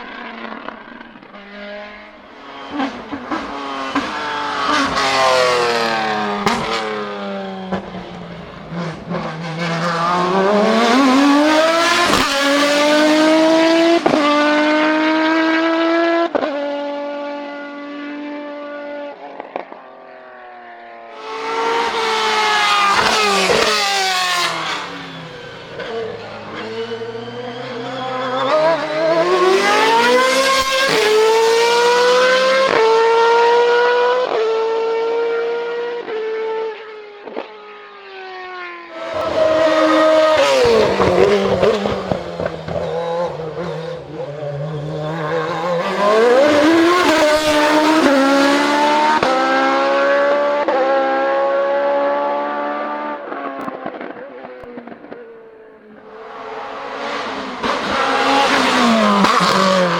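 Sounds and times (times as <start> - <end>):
racing car engine revving: 2.7 - 19.7, 21.2 - 37.4, 38.9 - 54.2, 56.1 - 59.9.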